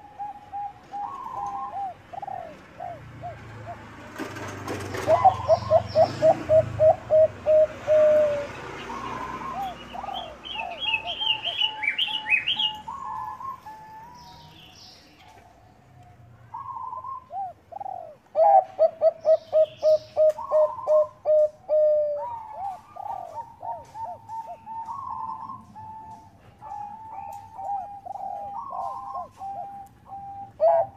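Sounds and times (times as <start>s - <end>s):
doves cooing in staccato notes: 0.0s - 14.4s, 15.3s - 30.9s.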